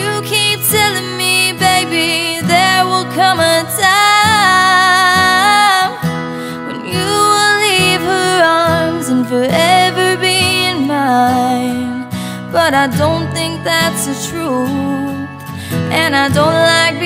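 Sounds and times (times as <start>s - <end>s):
woman singing a ballad: 0.0s - 17.0s.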